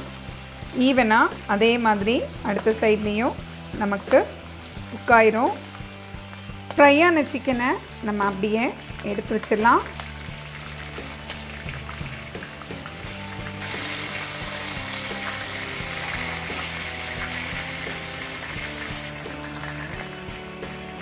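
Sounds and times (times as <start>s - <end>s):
chicken sizzling in a pan: 0.0s - 21.0s.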